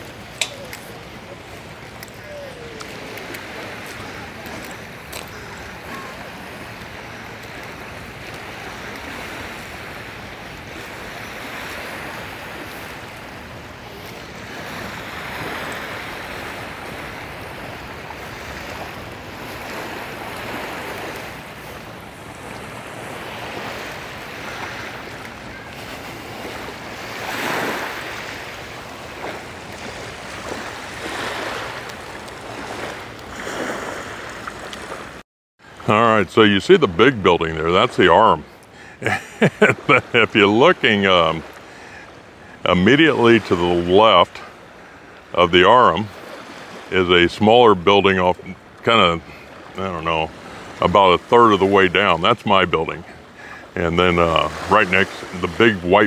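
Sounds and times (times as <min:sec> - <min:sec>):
sea waves washing onto beach: 0:00.0 - 0:56.0.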